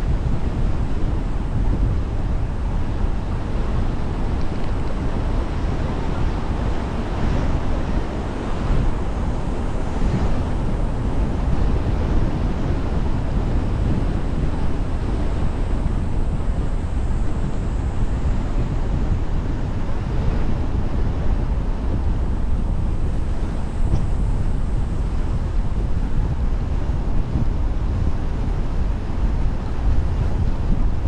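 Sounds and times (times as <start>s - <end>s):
car tyre and road noise: 0.0s - 31.0s
wind rumble on microphone: 0.0s - 31.0s.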